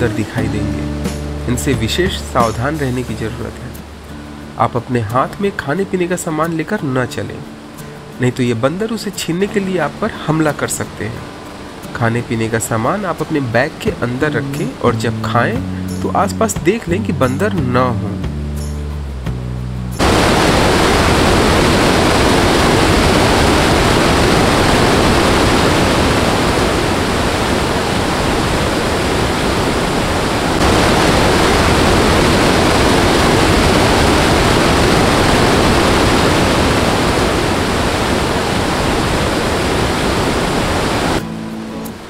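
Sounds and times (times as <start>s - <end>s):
waterfall roaring: 1.8s - 15.5s, 20.0s - 42.0s.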